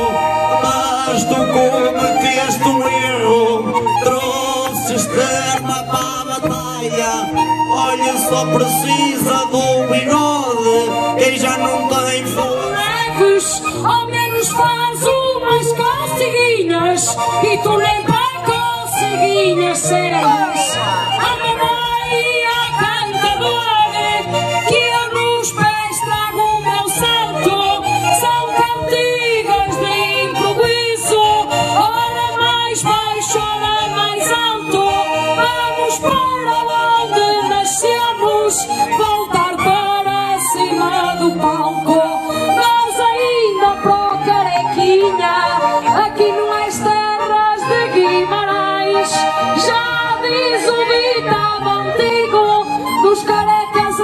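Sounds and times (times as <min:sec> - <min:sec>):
accordion accompaniment: 0:00.0 - 0:54.0
woman singing through a microphone: 0:00.0 - 0:54.0.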